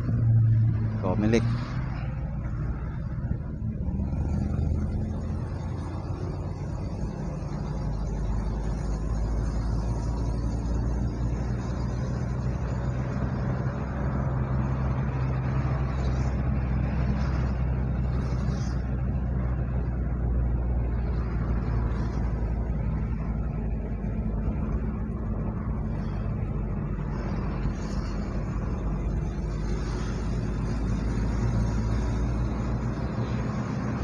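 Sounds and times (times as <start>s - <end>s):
tyre and road noise: 0.0s - 34.0s
vehicle engine hum: 0.0s - 34.0s.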